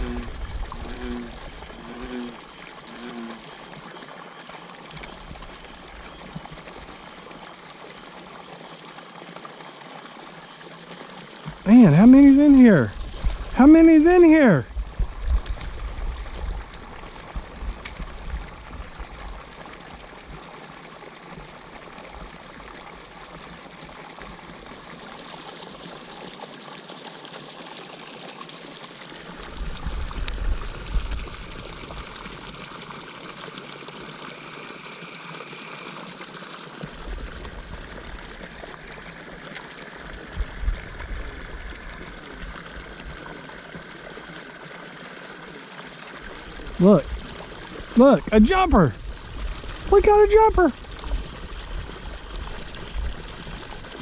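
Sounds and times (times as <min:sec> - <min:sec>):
water pouring into a pond: 0:00.0 - 0:54.0.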